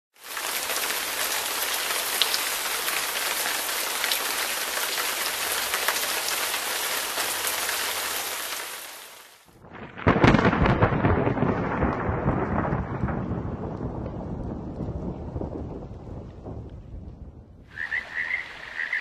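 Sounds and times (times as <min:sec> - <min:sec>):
steady rainfall: 0:00.1 - 0:19.0.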